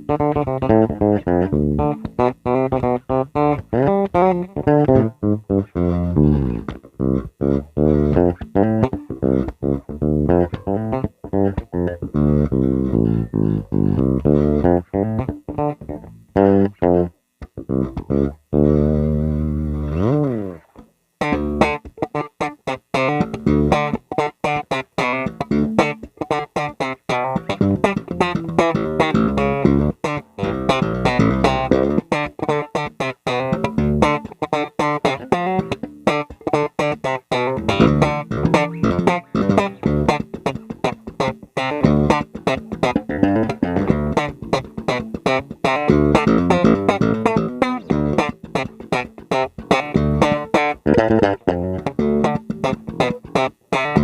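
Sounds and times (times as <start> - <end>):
electric bass plucked notes: 0.0 - 54.0.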